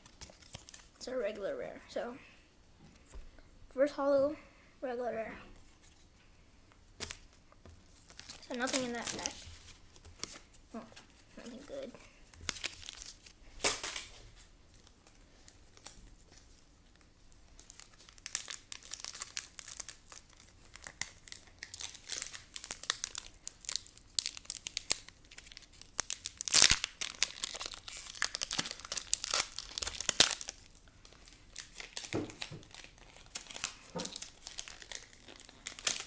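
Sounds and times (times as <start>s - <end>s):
foil wrapper crinkling: 0.0s - 1.1s, 7.0s - 36.0s.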